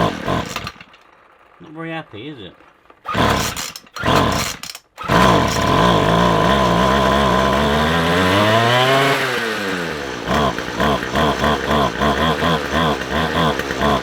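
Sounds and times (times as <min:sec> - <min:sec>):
strimmer engine running rough: 0:00.0 - 0:14.0.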